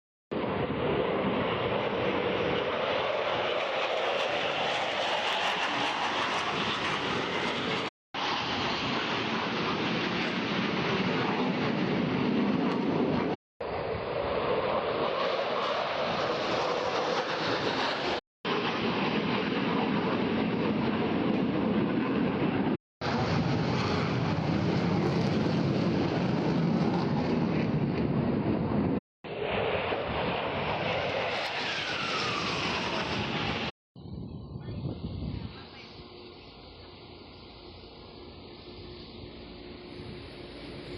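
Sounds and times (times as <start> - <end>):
aircraft engine roar: 0.3 - 40.9.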